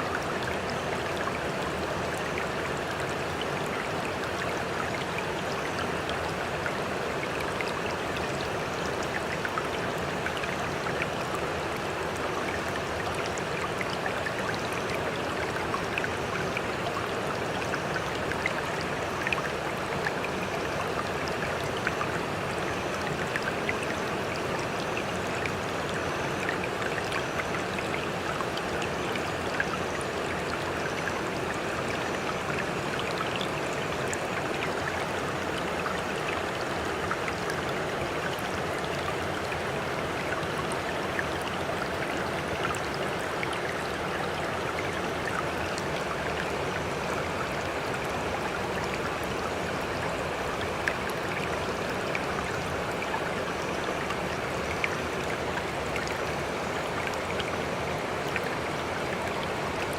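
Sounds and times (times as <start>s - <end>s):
rushing water with splashes: 0.0s - 59.9s.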